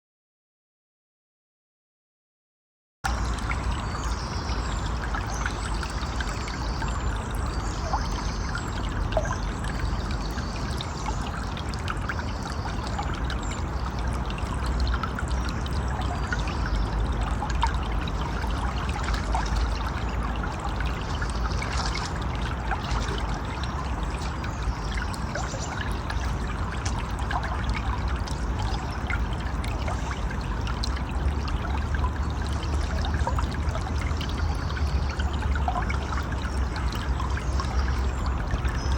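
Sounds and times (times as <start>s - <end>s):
stream water babbling over rocks: 3.1s - 38.9s.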